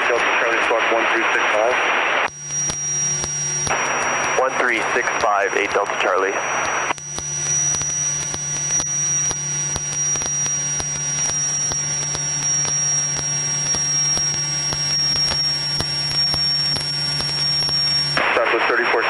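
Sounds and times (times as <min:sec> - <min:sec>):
thin high whine: 0:00.0 - 0:19.0.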